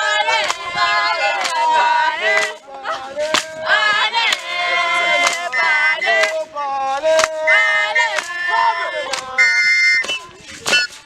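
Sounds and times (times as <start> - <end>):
group of voices singing: 0.0 - 10.9.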